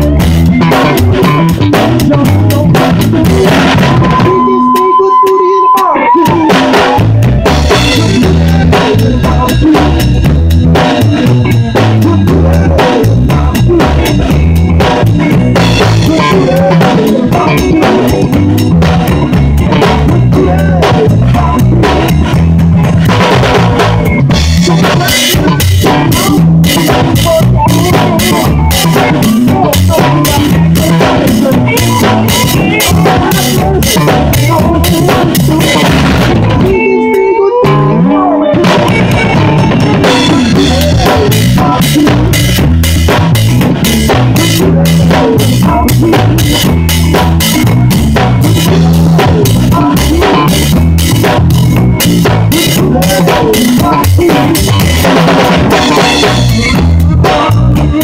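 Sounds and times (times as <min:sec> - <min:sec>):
drum kit beat: 0:00.0 - 0:58.0
live rock band playing: 0:00.0 - 0:58.0.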